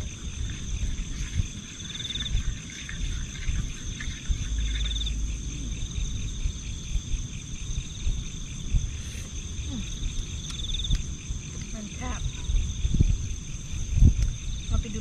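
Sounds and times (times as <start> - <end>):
insects trilling: 0.0 - 15.0
low rumbling noise: 0.0 - 15.0
pulsing insect call: 0.0 - 15.0.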